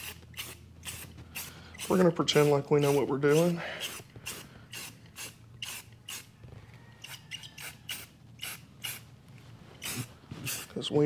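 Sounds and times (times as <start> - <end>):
spray can hissing: 0.0 - 6.3, 7.0 - 9.0, 9.8 - 10.8.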